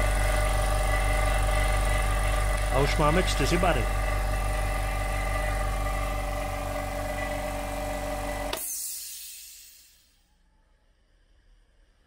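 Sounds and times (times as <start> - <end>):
piston air compressor running: 0.0 - 10.1.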